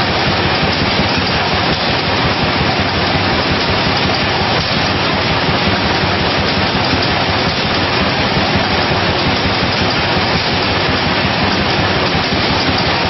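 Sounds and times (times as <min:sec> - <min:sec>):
bottling machine running: 0:00.0 - 0:13.0.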